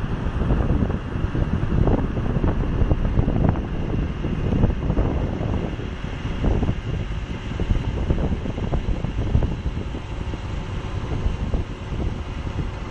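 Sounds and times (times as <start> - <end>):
helicopter rotor rumble: 0.0 - 12.9
wind buffeting microphone: 0.0 - 12.9.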